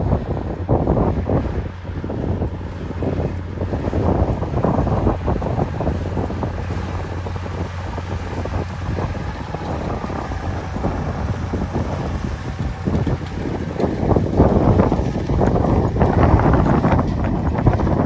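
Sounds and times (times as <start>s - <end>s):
tractor and baler humming: 0.0s - 18.0s
wind buffeting microphone: 0.0s - 18.0s.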